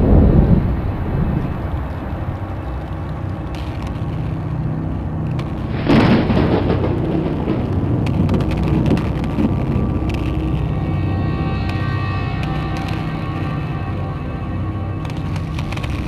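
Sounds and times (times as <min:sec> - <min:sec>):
deep steady rumbling: 0:00.0 - 0:16.0
scattered crackles: 0:00.0 - 0:16.0.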